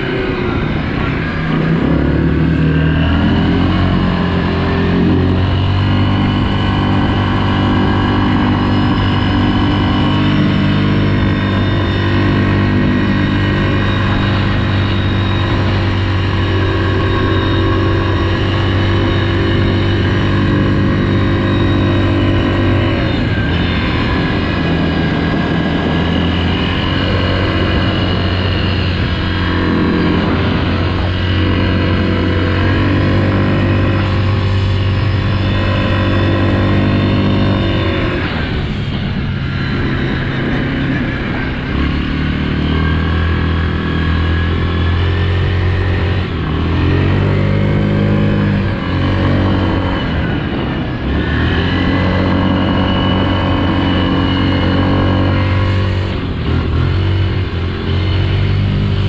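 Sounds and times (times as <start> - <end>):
atv engine running hard: 0.0 - 59.0.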